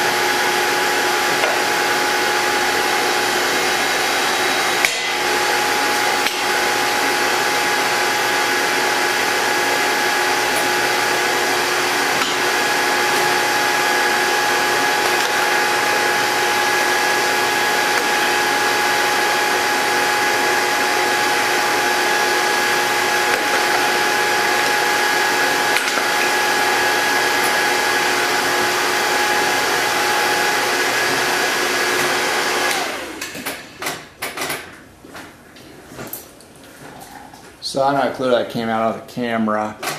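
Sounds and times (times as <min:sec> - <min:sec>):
tube bender motor whining: 0:00.0 - 0:33.4.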